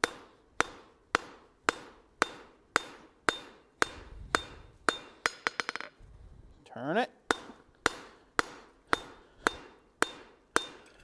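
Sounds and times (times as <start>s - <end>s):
hammer striking steel on anvil: 0.0s - 5.9s, 7.3s - 11.0s.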